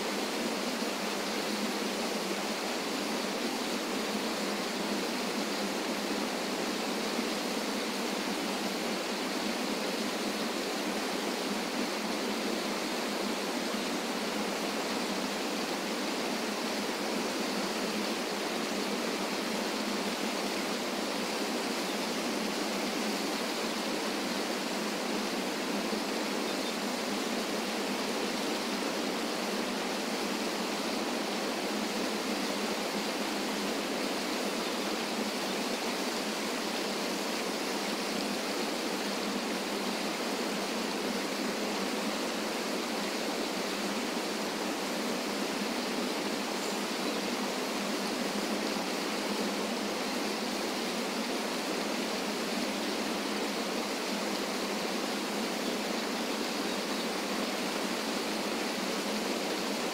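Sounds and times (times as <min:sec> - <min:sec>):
waterfall cascading over rocks: 0:00.0 - 0:59.9.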